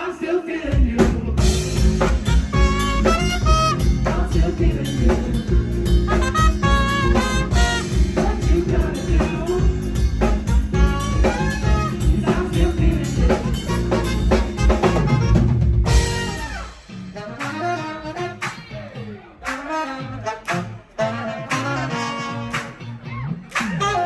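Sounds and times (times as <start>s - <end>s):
live jazz band: 1.0s - 24.0s.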